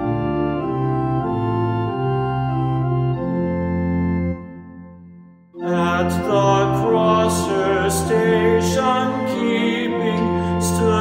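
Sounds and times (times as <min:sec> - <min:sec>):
organ playing slow chords: 0:00.0 - 0:11.0.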